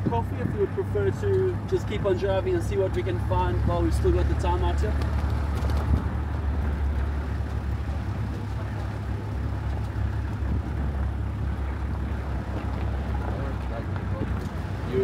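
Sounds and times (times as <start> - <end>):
tyre and road noise: 0.0 - 15.0
vehicle engine rumble: 0.0 - 15.0.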